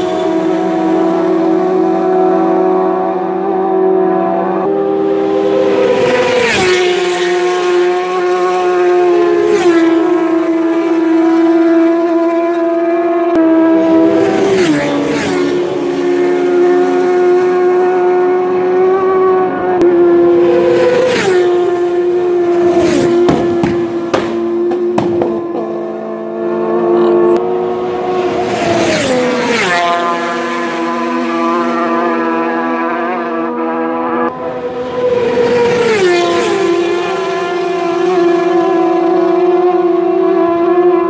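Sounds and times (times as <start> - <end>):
high engine-like drone: 0.0 - 41.0
racing motorcycles passing: 0.0 - 41.0.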